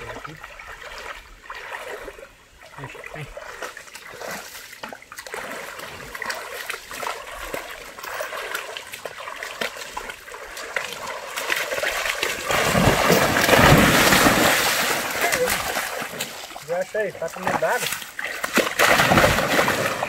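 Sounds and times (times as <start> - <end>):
stream water trickling: 0.0 - 20.0
wading through water: 0.0 - 20.0.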